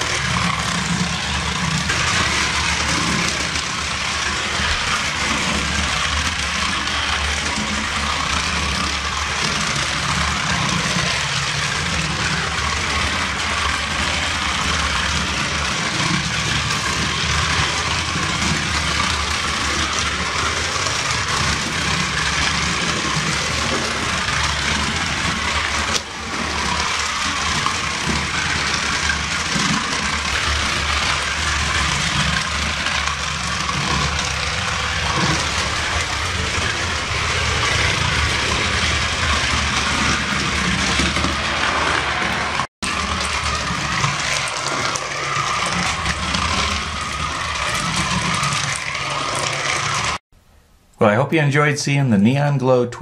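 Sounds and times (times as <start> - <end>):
toy cars whirring on plastic track: 0.0 - 50.2.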